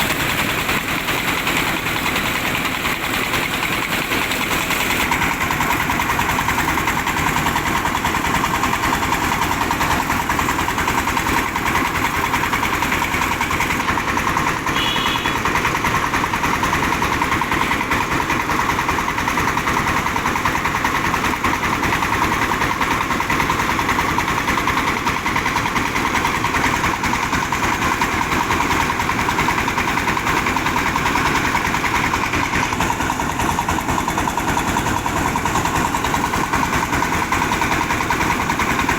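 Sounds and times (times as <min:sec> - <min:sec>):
rice mill engine running: 0:00.0 - 0:38.9.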